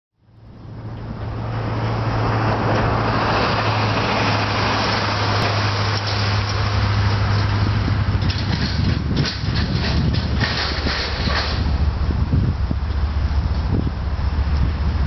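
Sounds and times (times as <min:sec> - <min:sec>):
locomotive engine drone: 0:00.2 - 0:15.0
wide rushing noise: 0:00.6 - 0:15.0.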